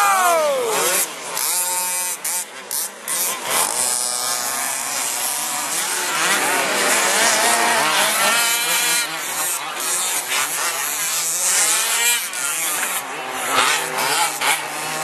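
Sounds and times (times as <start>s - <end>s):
rc truck motors revving: 0.7s - 15.0s.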